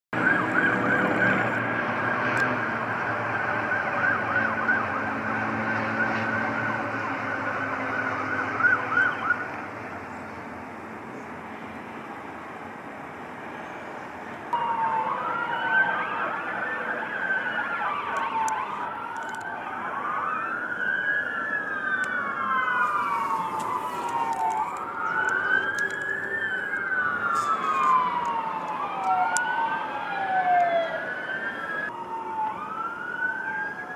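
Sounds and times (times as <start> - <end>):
fire engine wail siren: 0.1 - 33.9
warbling yelp siren: 0.2 - 11.2, 14.5 - 33.9
traffic noise: 0.2 - 33.9.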